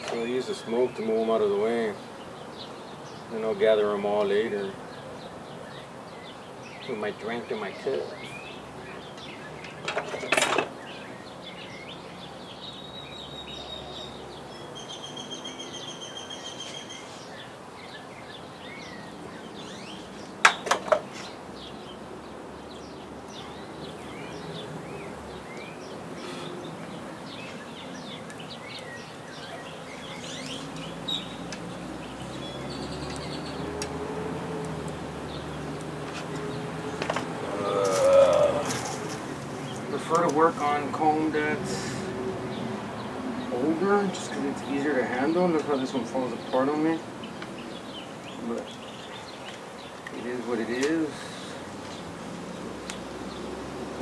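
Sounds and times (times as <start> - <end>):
birds chirping: 0.0 - 54.0
outdoor background noise: 0.0 - 54.0.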